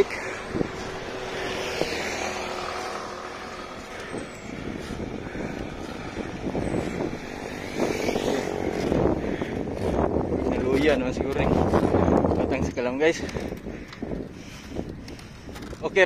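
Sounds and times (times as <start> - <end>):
motor traffic passing: 0.0 - 16.0.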